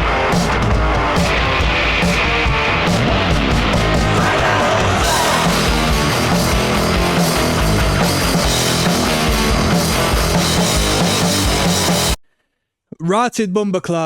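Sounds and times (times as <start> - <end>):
heavy metal music: 0.0 - 12.2.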